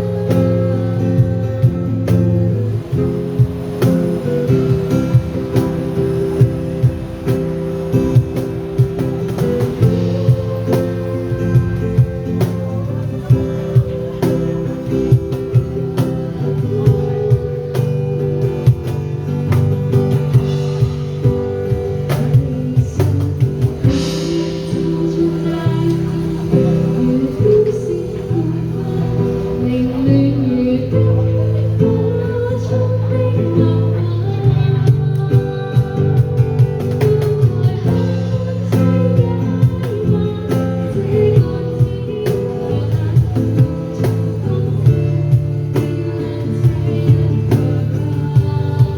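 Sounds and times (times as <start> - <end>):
drum kit beat: 0.0 - 30.1, 31.1 - 48.9
guitar chords: 0.0 - 48.9.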